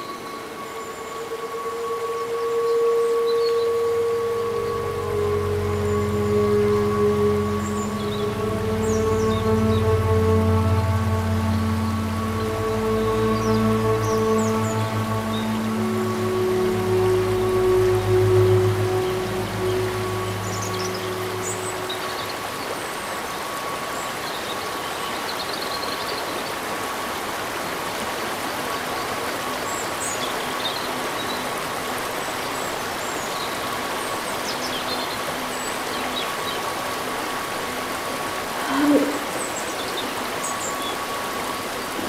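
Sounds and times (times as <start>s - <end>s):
faint steady tone: 0.0s - 42.0s
rain falling in woodland: 0.0s - 42.0s.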